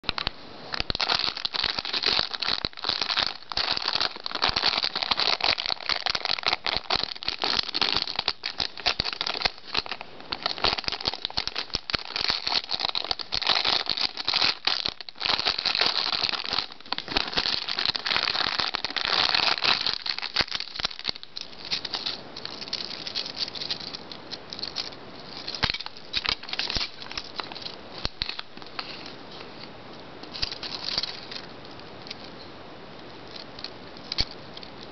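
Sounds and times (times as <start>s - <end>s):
plastic bag crinkling: 0.0s - 29.6s, 30.2s - 32.5s.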